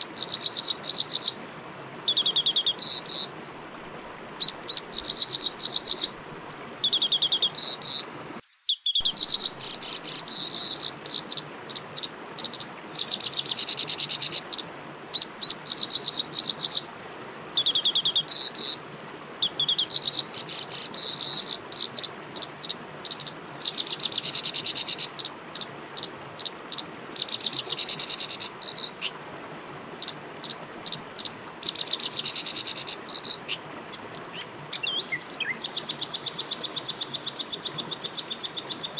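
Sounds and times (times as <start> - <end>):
steady high-pitched hiss: 0.0 - 38.9
songbird trilling: 0.2 - 3.6, 4.4 - 29.1, 34.2 - 38.9.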